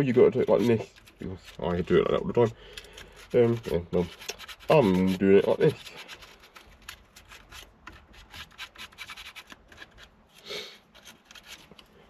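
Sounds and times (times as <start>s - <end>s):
sandpaper rubbing: 0.0s - 11.9s.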